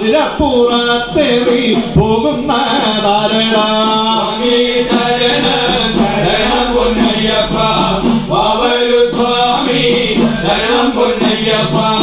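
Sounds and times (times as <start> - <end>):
hand drums: 0.0 - 12.0
men chanting in chorus: 0.0 - 12.0.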